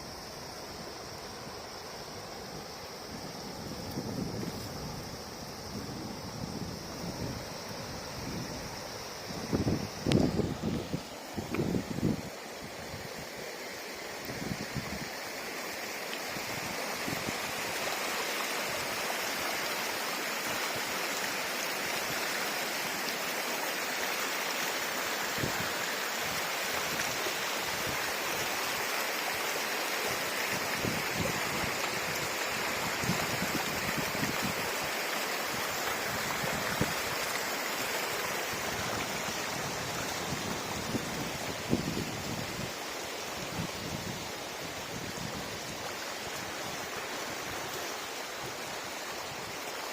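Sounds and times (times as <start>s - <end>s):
river water flowing over rocks: 0.0s - 49.9s.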